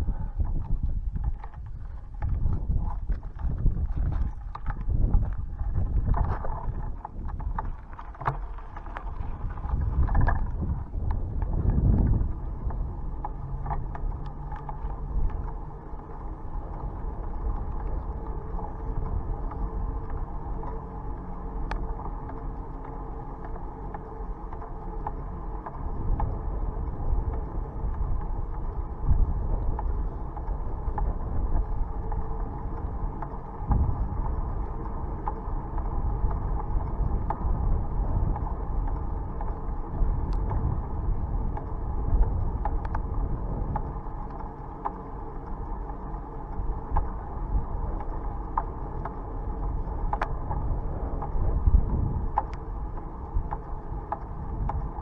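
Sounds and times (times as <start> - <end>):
bicycle chain running: 0.0 - 55.0
bicycle tyres and wind rumble: 0.0 - 55.0.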